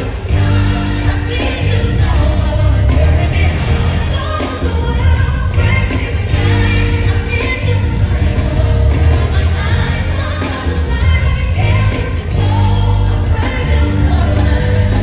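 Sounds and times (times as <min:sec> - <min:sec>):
backing singers: 0:00.0 - 0:15.0
live band playing: 0:00.0 - 0:15.0
woman singing lead: 0:00.0 - 0:15.0.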